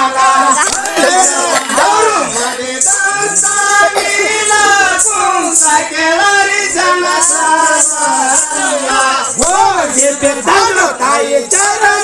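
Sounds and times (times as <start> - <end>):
jingling metal percussion: 0.0 - 12.0
voices singing a folk song: 0.0 - 12.0.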